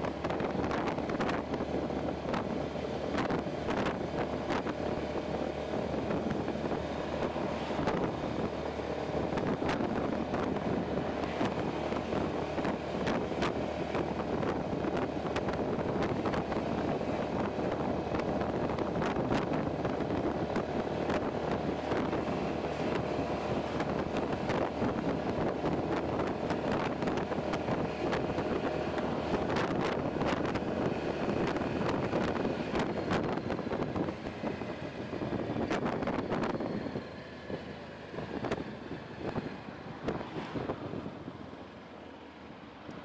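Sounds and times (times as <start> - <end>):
tyres on road: 0.0 - 43.0
wind rushing over microphone: 0.0 - 43.0.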